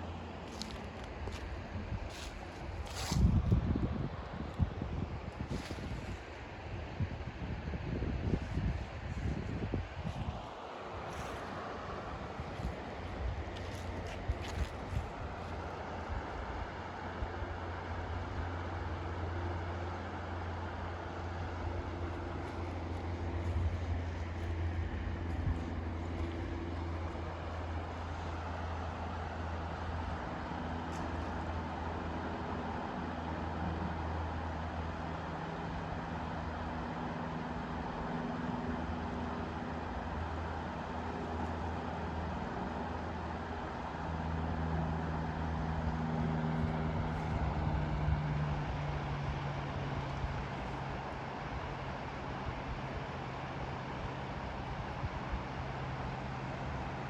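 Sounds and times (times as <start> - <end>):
distant road traffic rumble: 0.0 - 57.0
vehicle engine hum: 0.0 - 57.0.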